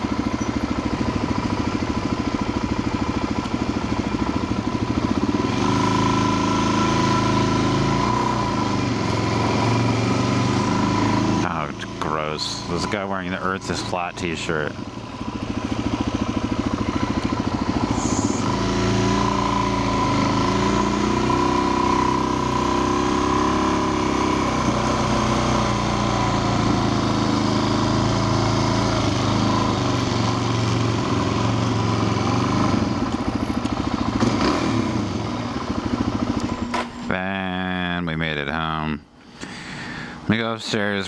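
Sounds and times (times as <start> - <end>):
motorcycle engine running: 0.0 - 38.8.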